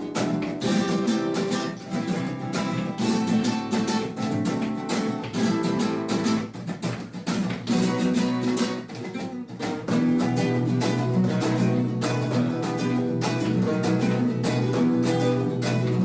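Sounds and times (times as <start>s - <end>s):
flamenco acoustic guitar: 0.0s - 16.0s.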